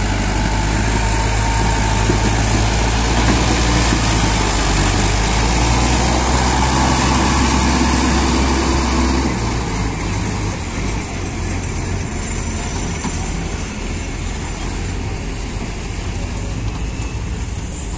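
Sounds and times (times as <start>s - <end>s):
tractor engine running: 0.0s - 17.9s.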